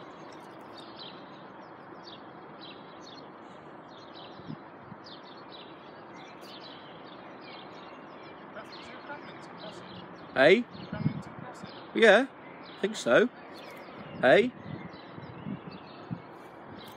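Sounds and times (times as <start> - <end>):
outdoor background hiss: 0.0 - 16.9
small birds chirping: 0.0 - 16.9.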